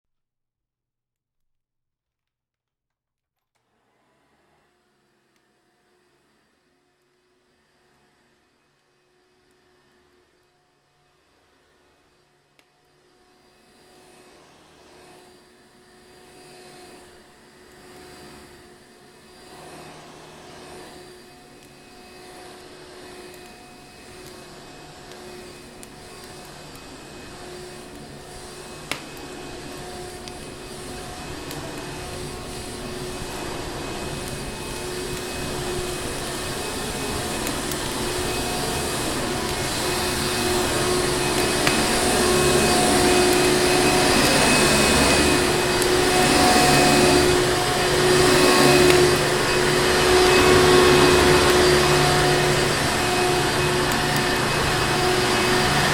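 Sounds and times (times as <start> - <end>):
vacuum cleaner motor whining: 3.6 - 55.9.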